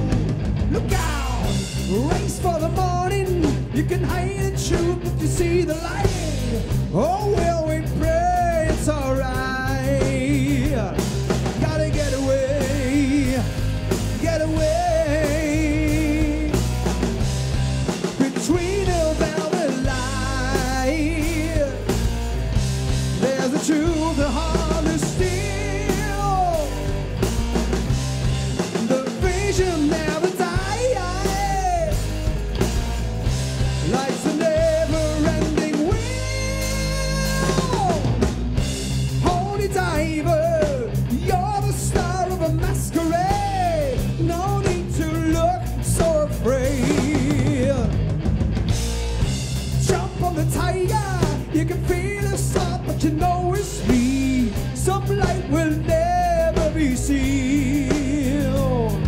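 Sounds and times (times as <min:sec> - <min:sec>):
lead vocal singing: 0:00.0 - 0:17.2, 0:17.9 - 0:22.2, 0:23.0 - 0:27.7, 0:28.5 - 0:32.6, 0:33.6 - 0:48.1, 0:49.7 - 0:59.0
rock band playing: 0:00.0 - 0:59.0.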